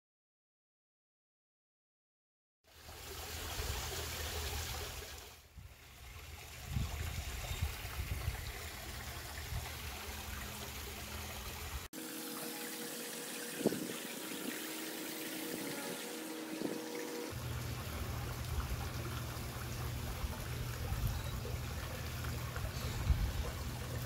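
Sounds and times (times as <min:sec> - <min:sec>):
water trickling: 0:02.7 - 0:24.0.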